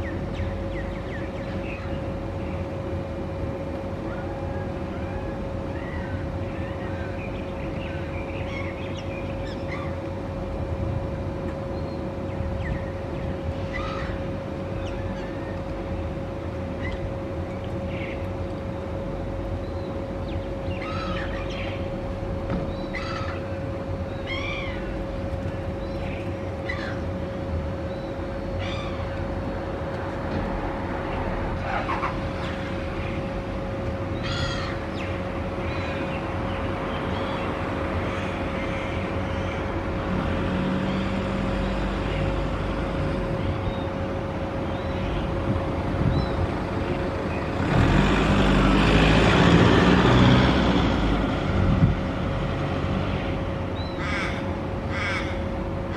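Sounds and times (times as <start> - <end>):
low traffic rumble: 0.0 - 55.9
steady hum: 0.0 - 55.9
gulls calling: 3.9 - 10.4, 11.6 - 47.7, 53.0 - 55.9.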